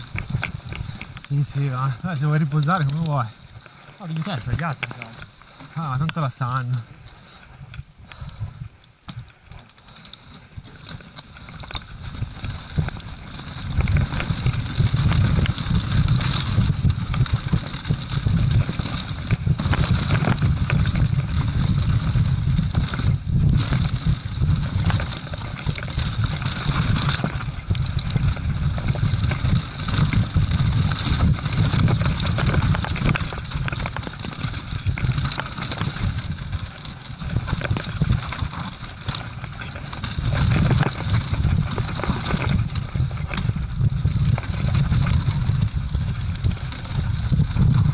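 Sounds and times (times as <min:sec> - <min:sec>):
tyres crunching over dirt: 0:00.0 - 0:08.4, 0:09.0 - 0:47.9
wind buffeting microphone: 0:00.0 - 0:09.2, 0:10.5 - 0:47.9
bike knocking and rattling: 0:00.0 - 0:47.9.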